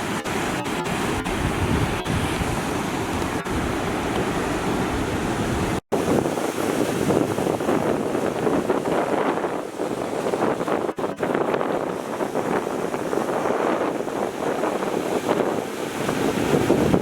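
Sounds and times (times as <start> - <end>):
heavy surf breaking: 0.0 - 17.0
wind buffeting microphone: 0.0 - 17.0.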